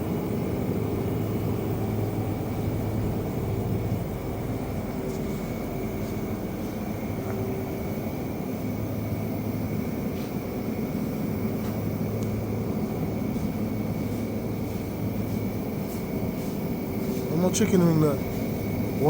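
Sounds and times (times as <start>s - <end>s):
faint high whine: 0.0s - 19.0s
refrigeration mechanical hum: 0.0s - 19.0s.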